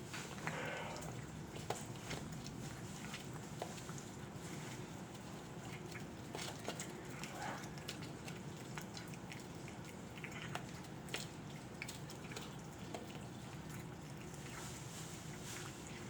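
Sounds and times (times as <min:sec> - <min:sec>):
cat eating crunchily: 0:00.0 - 0:16.0.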